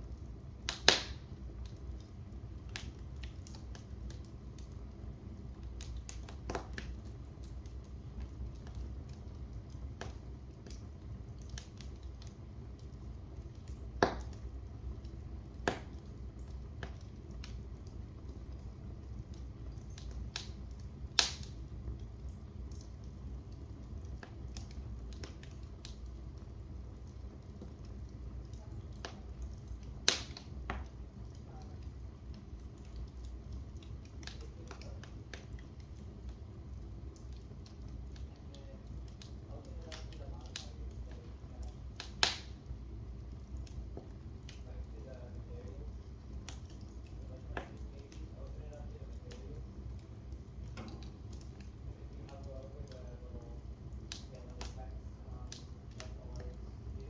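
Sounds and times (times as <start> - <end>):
fire crackling: 0.0 - 57.0
loud fire pops: 0.0 - 57.0
low rumble of fire: 0.0 - 57.0.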